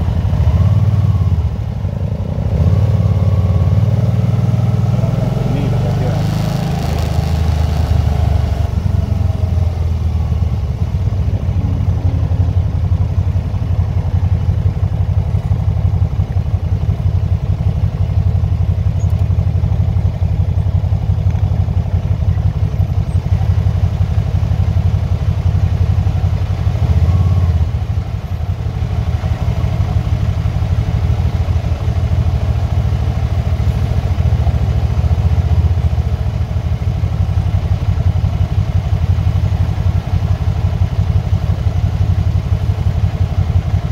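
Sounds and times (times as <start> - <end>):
motorcycle engine rumbling: 0.0 - 43.9.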